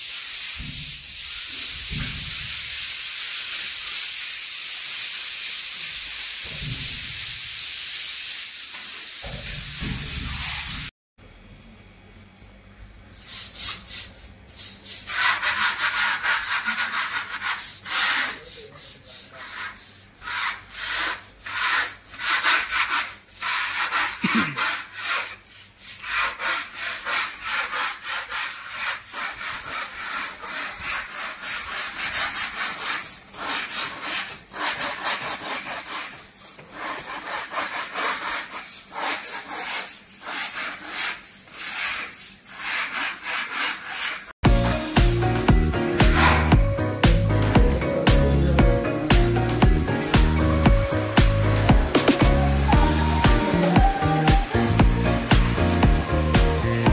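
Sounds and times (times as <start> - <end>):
rapid rubbing strokes: 0.0 - 10.9, 13.3 - 56.9
sandpaper sanding: 0.0 - 10.9, 13.3 - 56.9.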